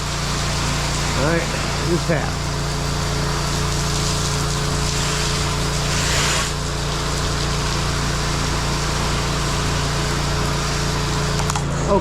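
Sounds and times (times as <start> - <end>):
pressure washer engine running: 0.0 - 12.0
water spray hissing: 0.0 - 12.0.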